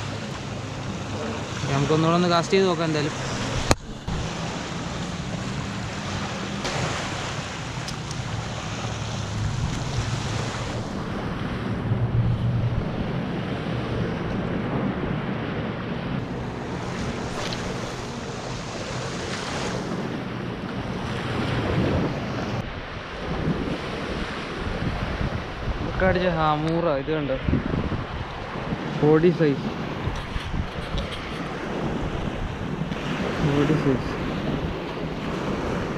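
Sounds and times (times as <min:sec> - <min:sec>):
sea surf washing onto beach: 0:00.0 - 0:15.0, 0:16.1 - 0:35.9
wind rumbling on microphone: 0:00.0 - 0:35.9.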